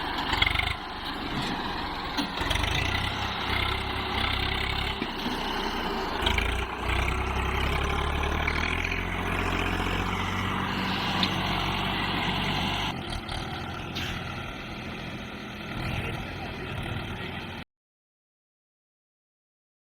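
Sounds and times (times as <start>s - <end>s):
tractor engine running: 0.0s - 17.6s.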